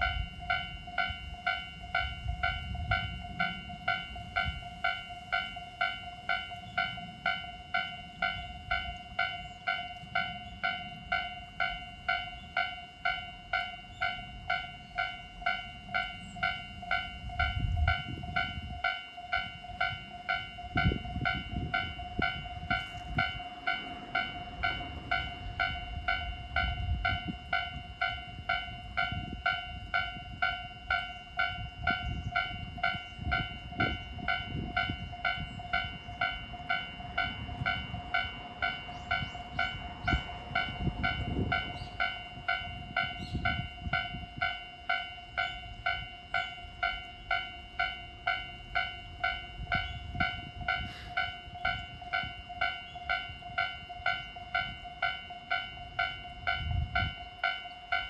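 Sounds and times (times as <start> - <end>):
level crossing warning bell: 0.0 - 58.0
train rumbling past: 0.0 - 58.0.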